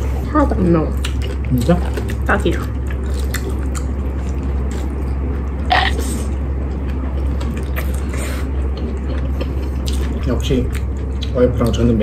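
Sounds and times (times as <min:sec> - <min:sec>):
low hum: 0:00.0 - 0:12.0
close-up chewing: 0:00.9 - 0:11.9.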